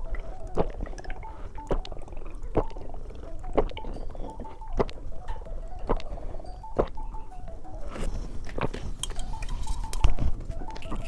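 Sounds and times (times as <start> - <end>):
chewing candy: 0.0 - 11.0.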